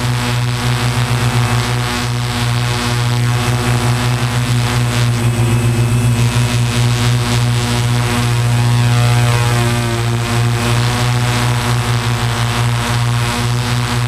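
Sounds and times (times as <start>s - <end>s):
drone propellers hovering hum: 0.0s - 14.0s.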